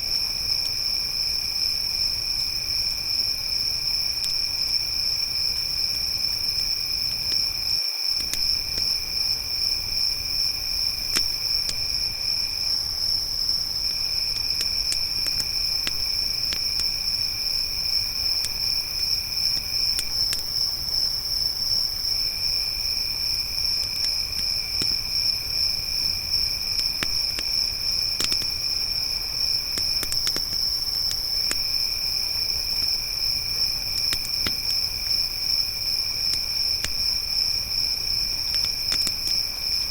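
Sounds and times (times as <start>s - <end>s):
campfire crackling: 0.0s - 39.9s
crickets trilling: 0.0s - 39.9s
lower insect trill: 0.0s - 39.9s.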